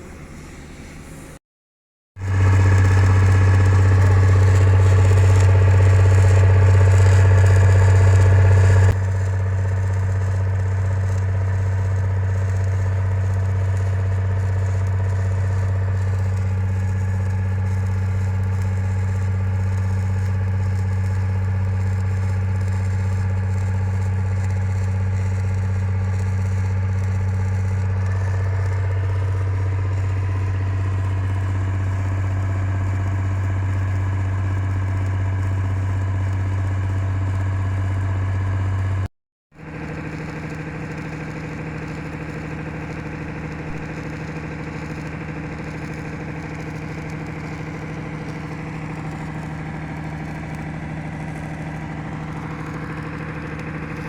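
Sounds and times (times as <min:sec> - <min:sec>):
engine running: 0:00.0 - 0:01.4, 0:02.2 - 0:54.0.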